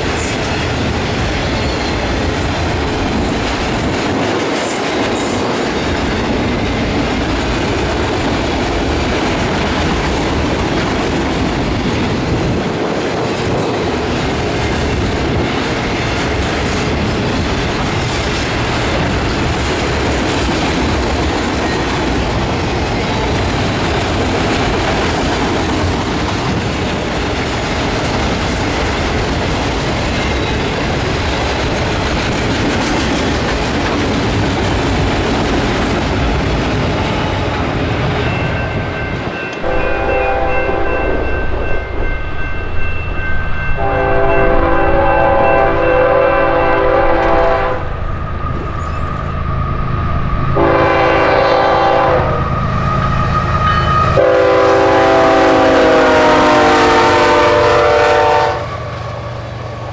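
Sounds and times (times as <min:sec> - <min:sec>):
steel wheels on rails: 0:00.0 - 0:59.9
train cars rattling: 0:00.0 - 0:59.9.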